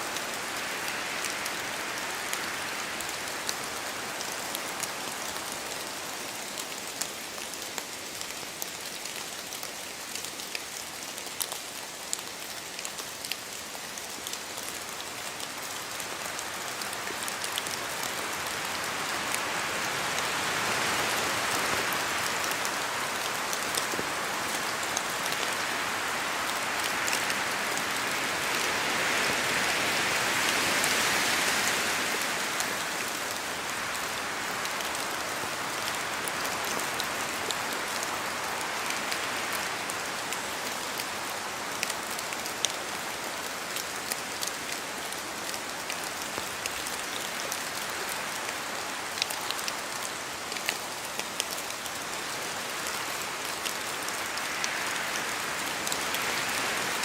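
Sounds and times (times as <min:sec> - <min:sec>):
rain on foliage: 0:00.0 - 0:57.0.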